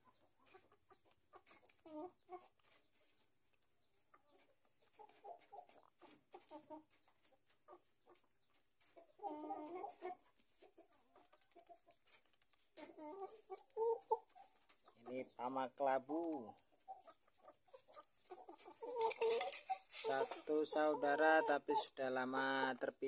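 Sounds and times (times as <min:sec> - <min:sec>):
chickens clucking softly: 0:00.0 - 0:23.0.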